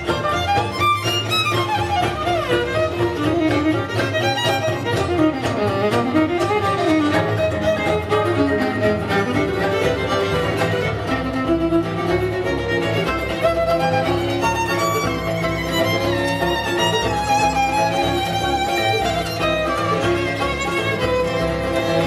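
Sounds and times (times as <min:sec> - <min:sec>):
violin melody: 0:00.0 - 0:22.0.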